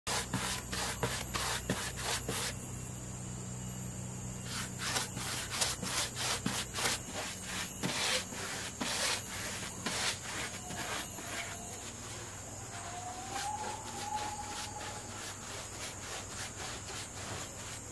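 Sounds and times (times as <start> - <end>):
paintbrush scrubbing wooden planks: 0.1 - 2.6, 4.5 - 17.9.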